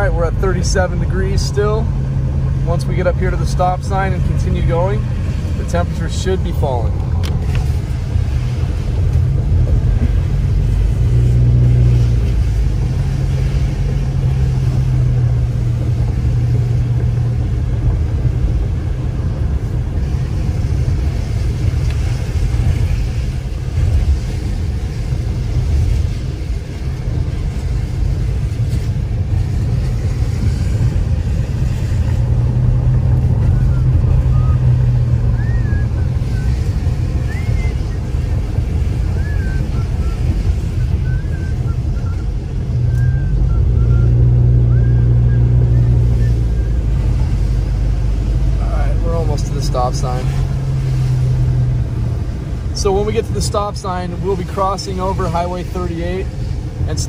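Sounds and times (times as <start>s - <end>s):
car engine hum: 0.0s - 57.0s
truck passing: 0.0s - 57.0s
tyre noise on wet road: 0.0s - 57.0s.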